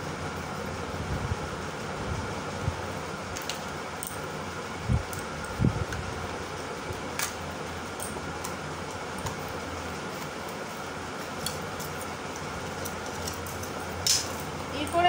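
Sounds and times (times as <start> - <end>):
room fan whirring: 0.0 - 15.0.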